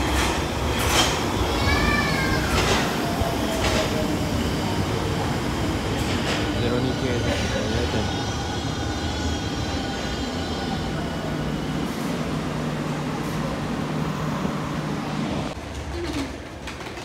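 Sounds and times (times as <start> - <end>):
subway train braking: 0.0 - 17.0.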